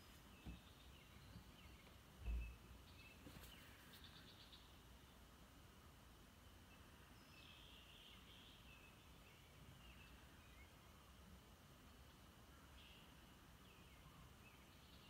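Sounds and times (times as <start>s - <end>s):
distant small birds chirping: 0.0s - 15.0s.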